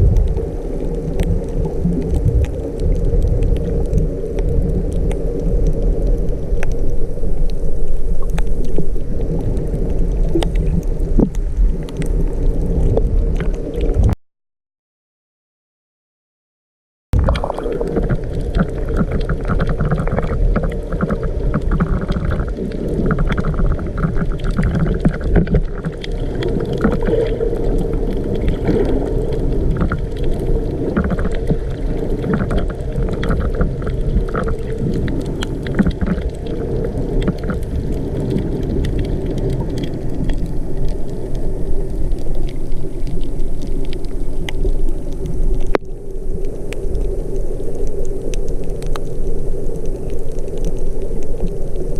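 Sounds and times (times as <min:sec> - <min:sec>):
underwater rumble and gurgling: 0:00.0 - 0:14.2, 0:17.2 - 0:51.9
faint clicks: 0:00.1 - 0:12.2, 0:17.3 - 0:51.9.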